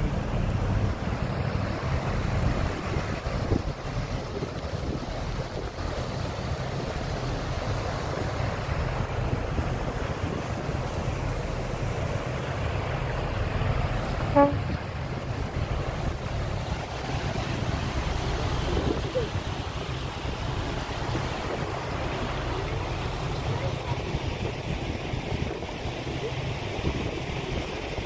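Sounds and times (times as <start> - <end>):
boat engine rumble: 0.0 - 28.0
water rushing along hull: 0.0 - 28.0
wind buffeting microphone: 0.0 - 28.0.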